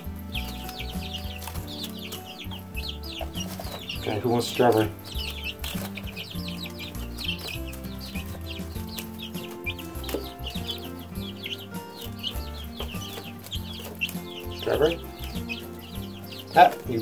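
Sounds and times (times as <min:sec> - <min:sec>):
background music with low notes: 0:00.0 - 0:17.0
chicks peeping: 0:00.0 - 0:17.0.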